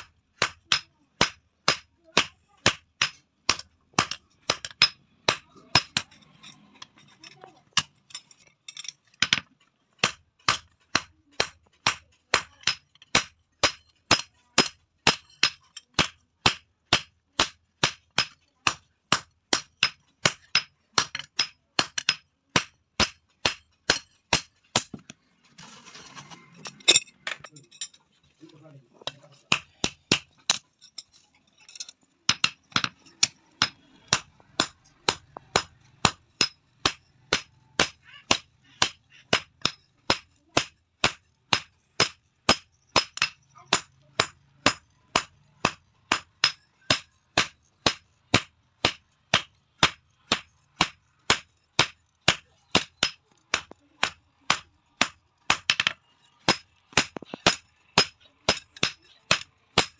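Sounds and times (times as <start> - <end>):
hammer striking steel on anvil: 0.0 - 6.9, 9.2 - 25.2, 31.8 - 59.9.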